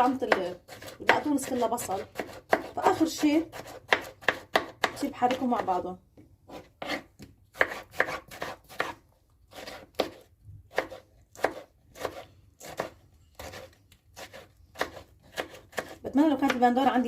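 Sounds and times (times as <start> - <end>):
knife chopping on cutting board: 0.1 - 5.8, 6.5 - 16.7.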